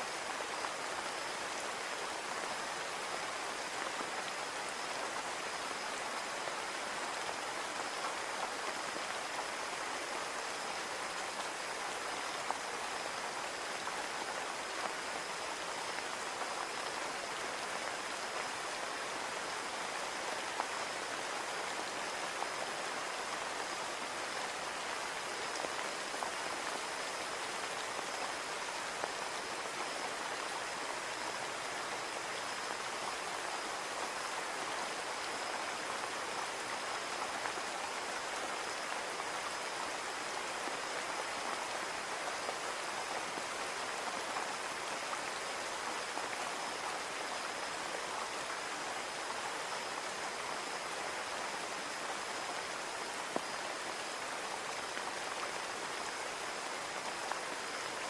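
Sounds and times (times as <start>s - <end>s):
rain pattering on a window: 0.1s - 58.0s.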